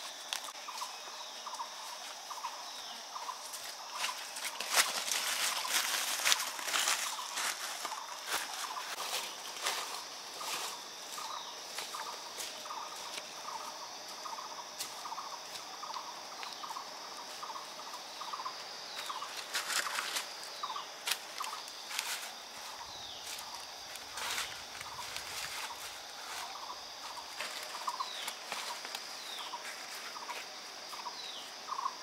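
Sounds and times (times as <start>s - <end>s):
bare feet on leaf litter: 0.0s - 31.6s
high insect drone: 0.0s - 32.0s.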